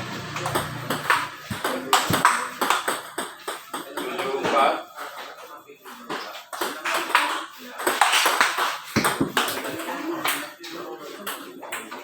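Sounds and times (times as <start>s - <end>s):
voices in background: 0.2s - 12.0s.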